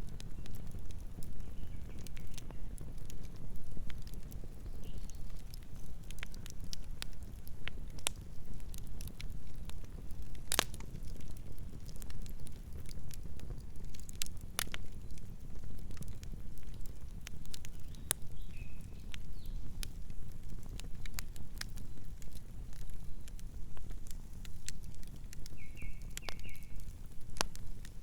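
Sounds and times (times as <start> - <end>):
campfire crackling and popping: 0.0 - 28.0
low fire rumble: 0.0 - 28.0.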